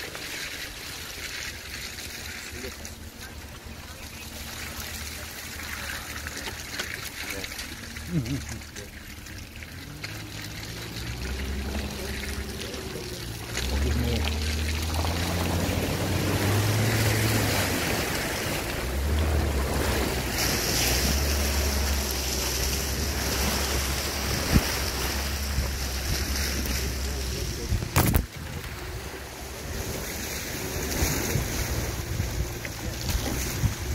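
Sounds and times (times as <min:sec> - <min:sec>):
low engine hum: 0:00.0 - 0:33.9
water rushing and splashing: 0:00.0 - 0:33.9.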